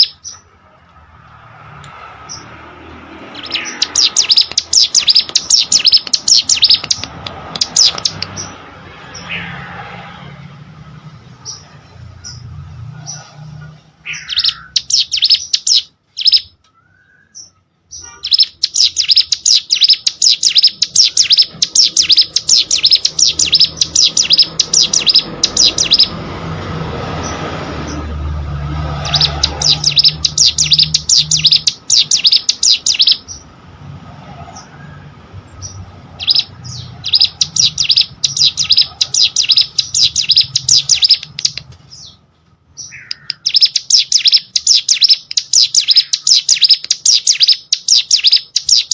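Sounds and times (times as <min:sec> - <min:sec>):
bird singing high chirps: 0:00.0 - 0:00.5, 0:02.2 - 0:09.8, 0:11.0 - 0:26.4, 0:27.1 - 0:33.5, 0:34.5 - 0:48.9.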